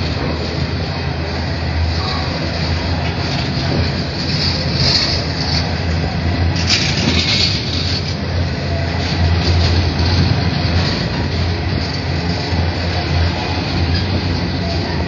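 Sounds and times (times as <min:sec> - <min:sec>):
train wagons rumbling on rails: 0:00.0 - 0:15.0.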